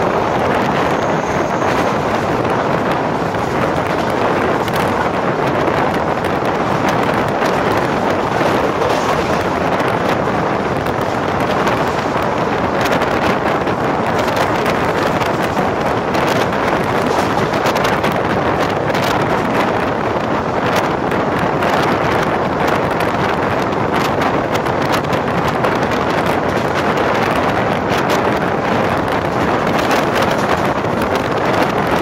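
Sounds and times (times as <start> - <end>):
train rushing at high speed: 0.0 - 32.0
wind buffeting the microphone: 0.0 - 32.0.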